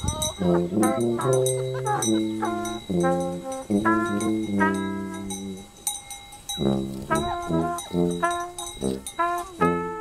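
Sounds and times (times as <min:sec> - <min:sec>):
jazz band with brass horns: 0:00.0 - 0:05.8, 0:06.6 - 0:10.0.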